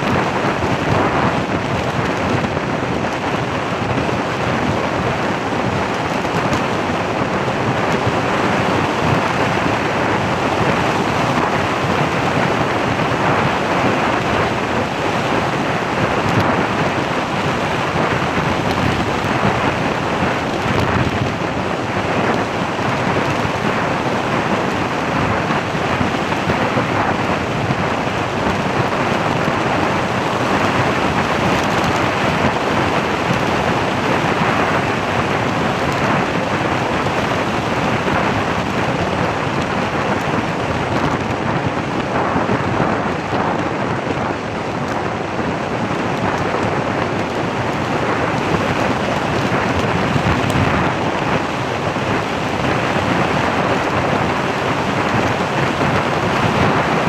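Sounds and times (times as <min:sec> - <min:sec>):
microphone crackling: 0:00.0 - 0:57.0
wind and road noise: 0:00.0 - 0:57.0.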